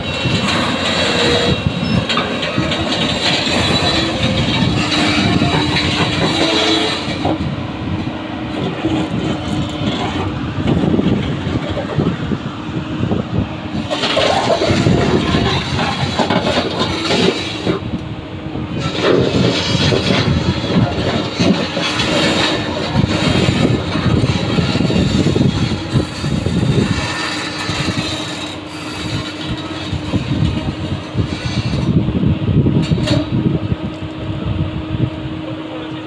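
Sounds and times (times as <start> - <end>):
steel tracks clanking and squealing: 0.0 - 18.0, 18.6 - 32.2, 32.8 - 34.1
diesel engine running under load: 0.0 - 36.0.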